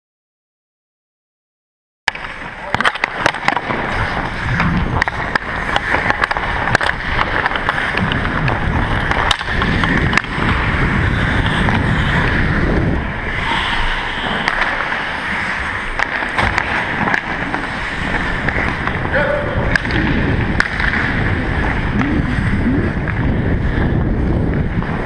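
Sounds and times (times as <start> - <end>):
skates scraping on ice: 2.1 - 25.0
stick and puck clicks: 2.1 - 25.0
low rumble of movement: 3.6 - 25.0.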